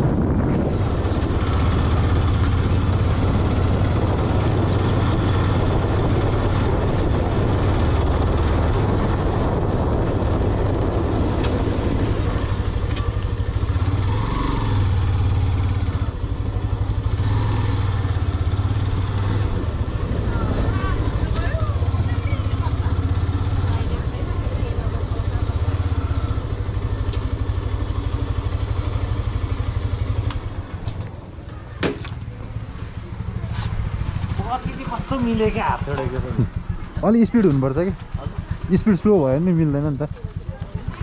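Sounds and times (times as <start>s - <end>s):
road and wind noise: 0.0s - 41.0s
vehicle engine humming: 0.0s - 41.0s.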